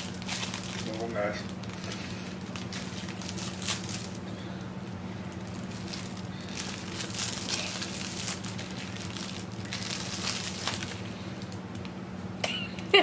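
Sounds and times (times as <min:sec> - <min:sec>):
plastic packet crinkling: 0:00.0 - 0:11.9.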